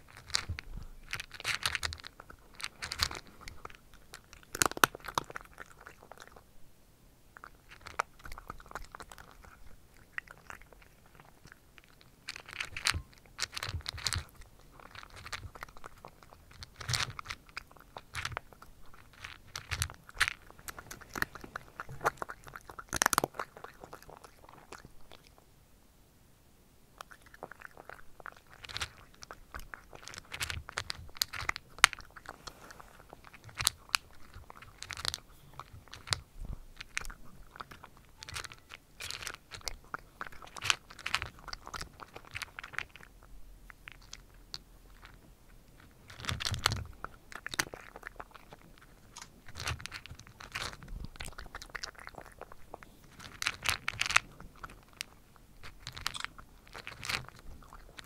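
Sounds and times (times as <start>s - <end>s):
cat crunching dry kibble: 0.0s - 6.5s, 7.4s - 25.4s, 27.0s - 58.0s.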